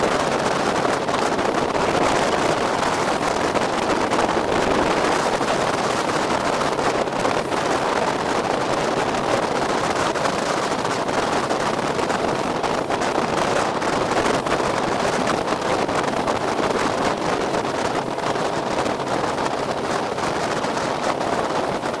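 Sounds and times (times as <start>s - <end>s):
motorboat running: 0.0s - 22.0s
wind buffeting microphone: 0.0s - 22.0s.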